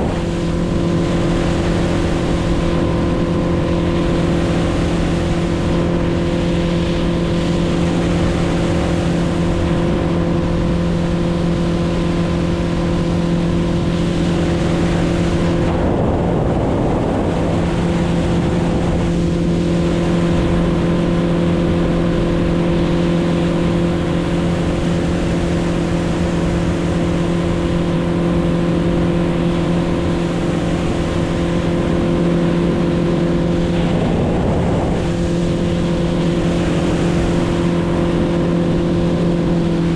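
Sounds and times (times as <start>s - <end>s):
boat motor droning: 0.0s - 39.9s
rushing water: 0.0s - 39.9s
wind noise: 0.0s - 39.9s.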